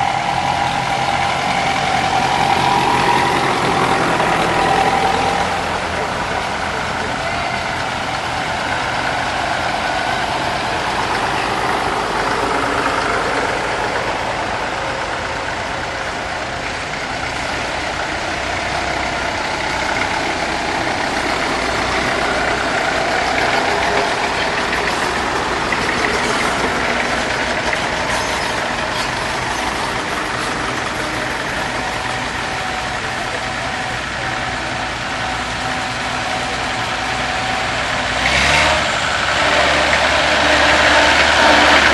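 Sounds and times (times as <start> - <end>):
tractor engines running: 0.0 - 41.9.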